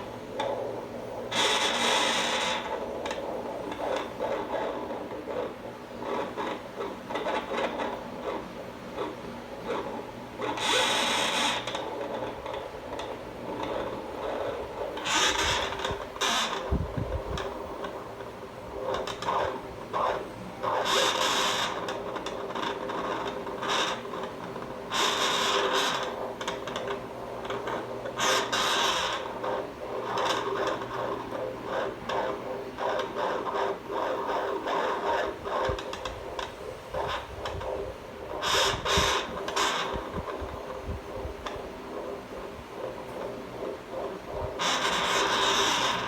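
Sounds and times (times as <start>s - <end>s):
machine humming: 0.0s - 46.0s
scraping bursts inside machine: 0.0s - 46.0s.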